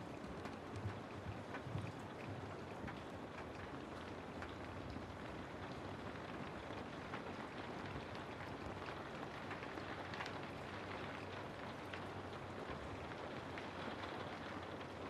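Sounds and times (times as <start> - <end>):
raindrop ticks: 0.0 - 15.0
steady rain hiss: 2.3 - 15.0.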